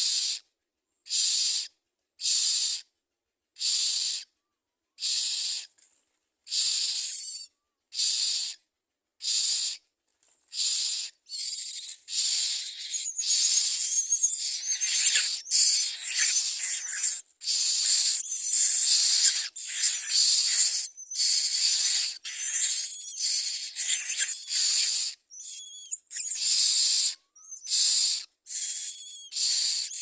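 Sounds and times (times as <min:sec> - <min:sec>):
nestlings begging with hissing rasps: 0:00.0 - 0:00.4, 0:01.1 - 0:02.8, 0:03.6 - 0:04.2, 0:05.0 - 0:05.7, 0:06.5 - 0:08.6, 0:09.2 - 0:09.8, 0:10.5 - 0:30.0.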